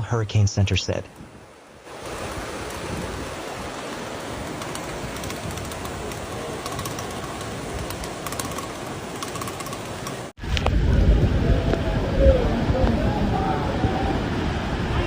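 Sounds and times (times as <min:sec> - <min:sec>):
floodwater rushing: 0:00.7 - 0:10.3, 0:10.9 - 0:15.0
rain: 0:01.1 - 0:15.0.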